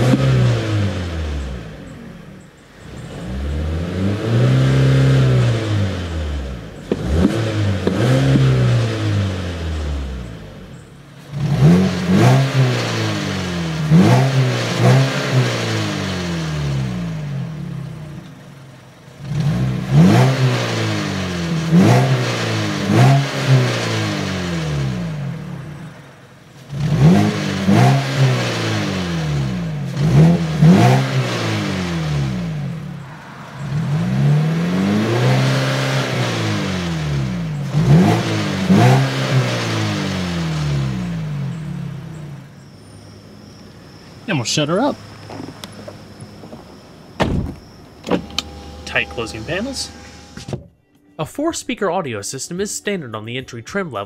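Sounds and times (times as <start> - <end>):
car engine idling: 0.0 - 50.5
car engine revving: 0.0 - 50.5.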